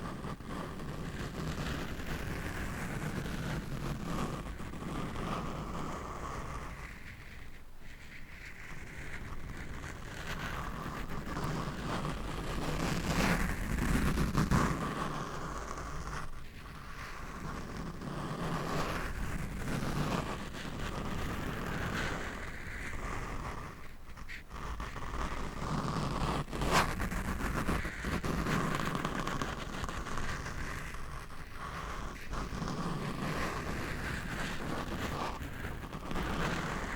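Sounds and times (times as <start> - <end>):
scratching on microphone: 0.0 - 36.9.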